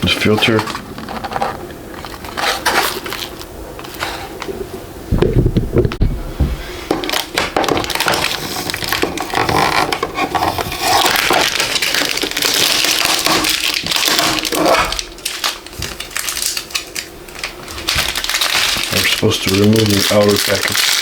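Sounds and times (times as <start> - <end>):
packaging crackling and rustling: 0.0 - 4.6, 6.9 - 21.0.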